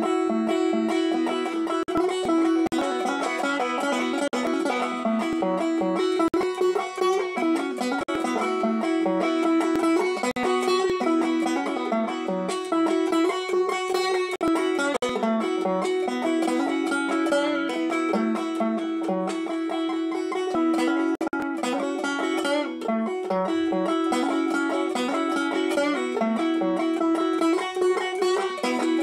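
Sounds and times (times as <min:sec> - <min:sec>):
banjo fingerpicked notes: 0:00.0 - 0:29.0.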